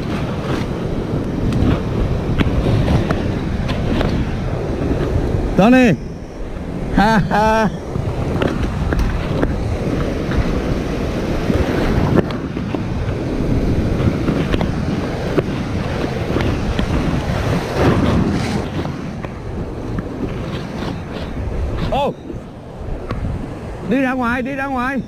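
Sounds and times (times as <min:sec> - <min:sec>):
shallow surf breaking: 0:00.0 - 0:25.0
wind buffeting microphone: 0:00.0 - 0:25.0.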